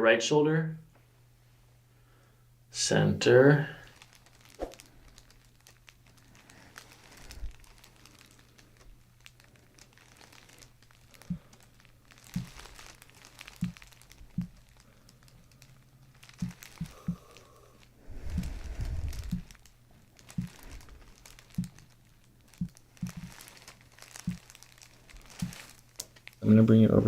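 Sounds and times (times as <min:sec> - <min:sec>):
low steady hum: 0:00.0 - 0:27.0
faint crinkling and rustling: 0:03.7 - 0:27.0.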